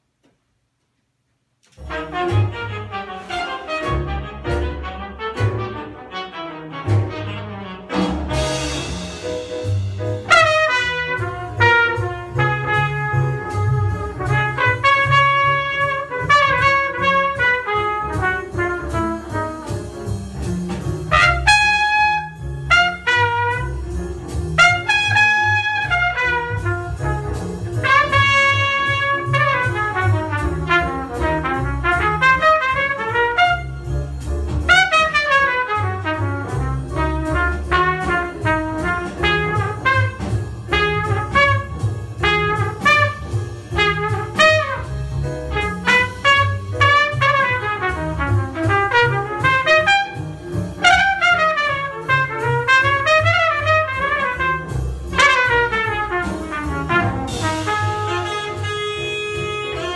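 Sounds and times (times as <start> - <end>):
bass and drums: 1.7 - 59.9
jazz trumpet solo: 1.7 - 59.9.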